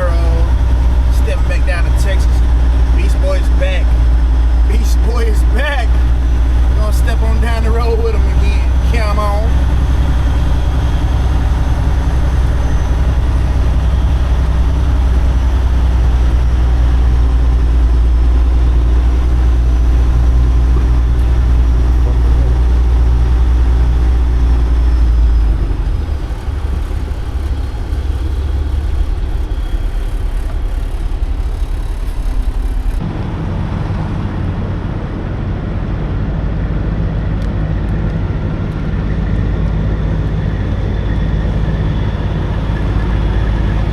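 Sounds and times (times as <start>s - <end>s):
truck engine and road drone: 0.0s - 43.9s.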